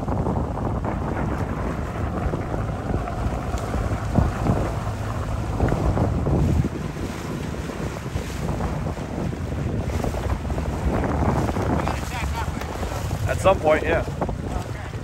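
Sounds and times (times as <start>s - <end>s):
choppy water splashing: 0.0s - 15.0s
wind buffeting microphone: 0.0s - 15.0s.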